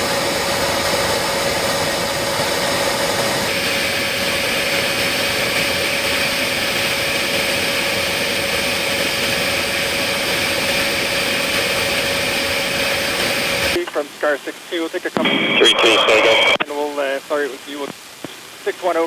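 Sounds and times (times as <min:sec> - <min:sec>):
jet engine and airflow noise: 0:00.0 - 0:18.8.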